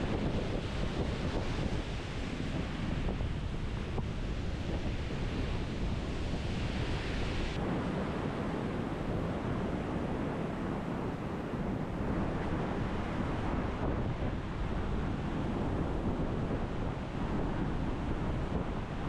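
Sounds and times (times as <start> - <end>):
waves washing onto shore: 0.0 - 19.0
wind buffeting microphone: 0.0 - 19.0.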